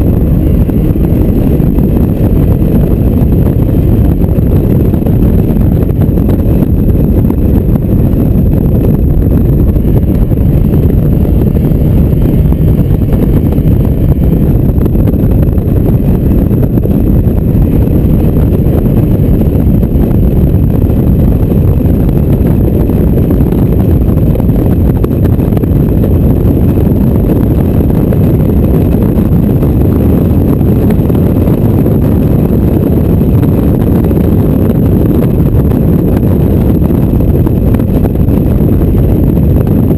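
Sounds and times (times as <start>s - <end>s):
car engine: 0.0s - 39.6s
road noise: 0.0s - 39.9s
wind buffeting microphone: 0.0s - 39.9s.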